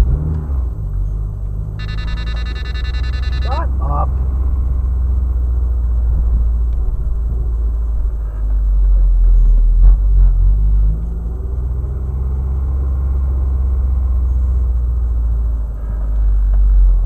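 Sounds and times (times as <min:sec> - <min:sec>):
car road and engine drone: 0:00.0 - 0:17.0.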